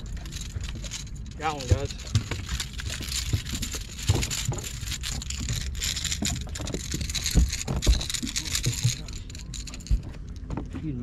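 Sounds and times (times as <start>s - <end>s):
low thumps: 0.0s - 10.8s.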